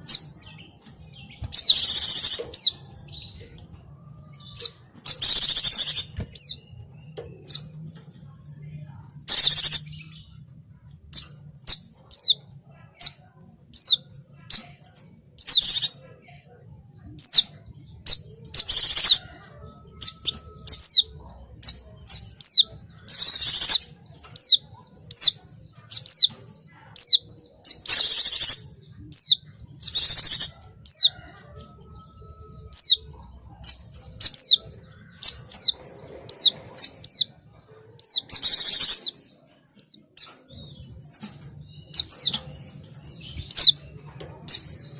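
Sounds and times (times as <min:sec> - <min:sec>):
harsh bird chatter: 0:00.0 - 0:08.4, 0:09.2 - 0:44.9.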